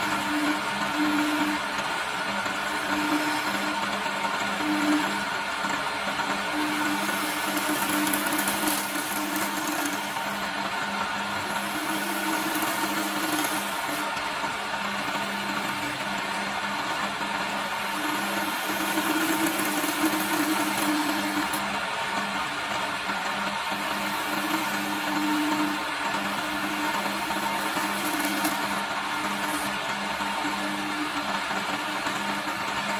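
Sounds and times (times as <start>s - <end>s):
lathe motor hum: 0.0s - 32.9s
tool scraping spinning wood: 0.0s - 32.9s.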